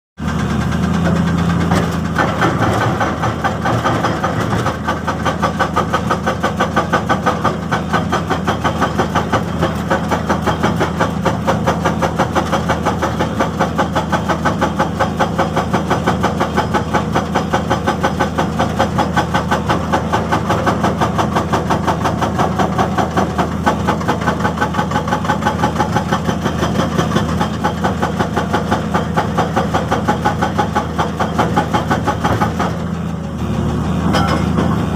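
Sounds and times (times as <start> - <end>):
diesel engine running: 0.2 - 34.9
hydraulic breaker hammering rock: 0.2 - 34.9.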